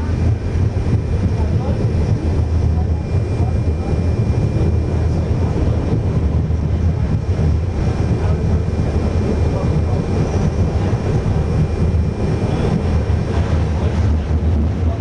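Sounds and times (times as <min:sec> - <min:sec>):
faint high whine: 0:00.0 - 0:15.0
railway car rumble: 0:00.0 - 0:15.0.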